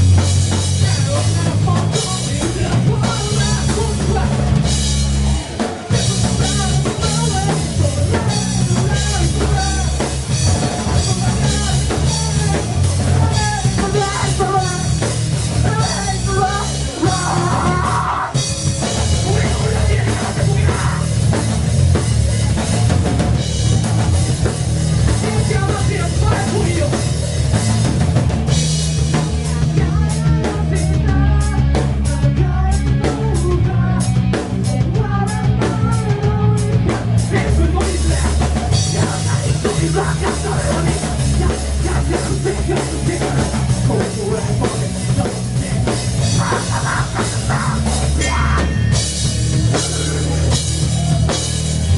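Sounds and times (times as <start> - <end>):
drum kit: 0.0 - 51.9
electric guitar: 0.0 - 51.9
person singing: 0.7 - 4.6, 5.6 - 21.2, 24.9 - 27.3, 29.1 - 49.0, 49.6 - 51.5.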